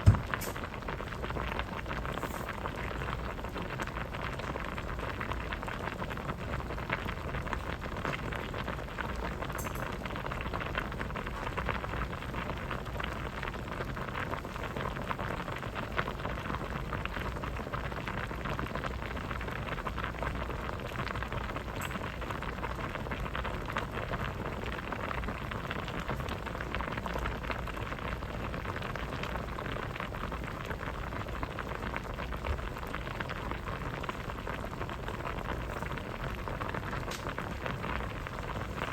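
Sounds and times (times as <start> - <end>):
soup boiling and bubbling: 0.0 - 38.9.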